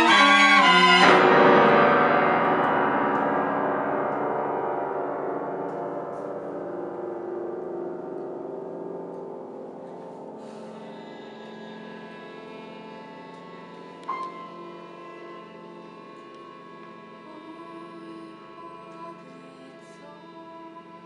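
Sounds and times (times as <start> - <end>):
grand piano chord ringing: 0.0 - 17.9.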